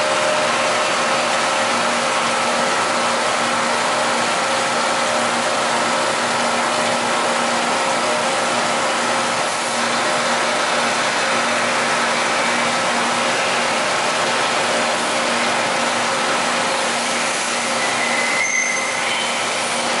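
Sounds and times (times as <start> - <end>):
boring mill mechanical hum: 0.0 - 20.0.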